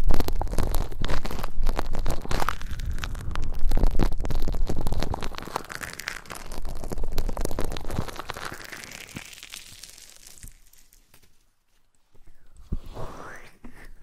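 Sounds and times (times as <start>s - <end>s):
close-up crackling and rustling: 0.0s - 14.0s.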